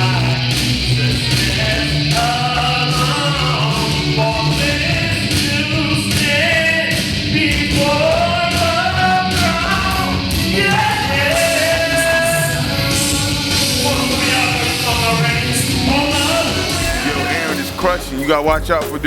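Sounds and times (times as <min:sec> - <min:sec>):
person singing long notes: 0:00.0 - 0:18.2
bass line: 0:00.0 - 0:19.0.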